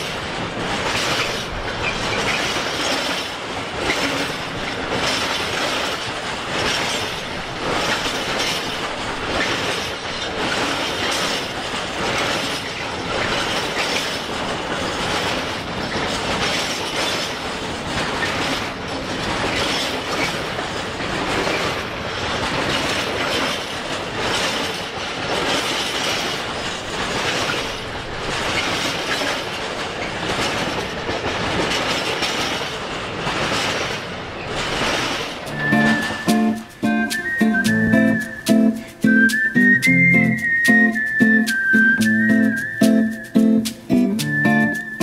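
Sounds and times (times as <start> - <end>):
freight train rumbling past: 0.0 - 45.0
wheels clattering over rail joints: 0.0 - 45.0.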